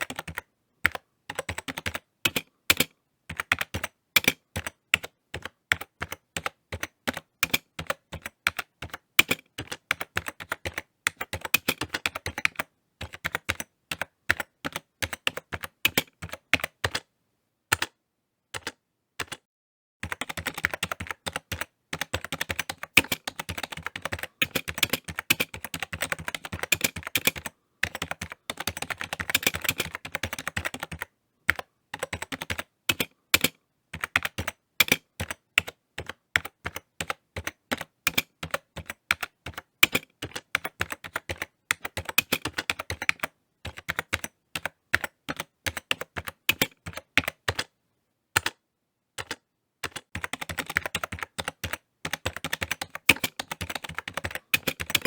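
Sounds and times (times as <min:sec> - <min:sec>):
typing on a keyboard: 0:00.0 - 0:17.1, 0:17.7 - 0:47.8, 0:48.4 - 0:48.6, 0:49.2 - 0:55.0.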